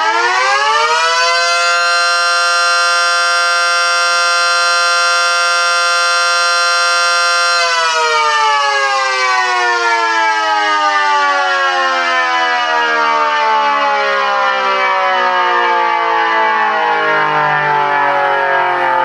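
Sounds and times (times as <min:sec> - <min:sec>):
two-tone siren winding down: 0:00.0 - 0:19.0.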